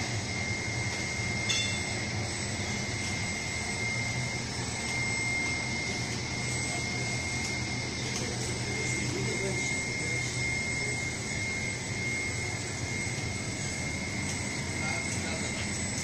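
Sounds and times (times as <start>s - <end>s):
high-pitched machine whine: 0.0s - 16.0s
hum of motors and blowers: 0.0s - 16.0s.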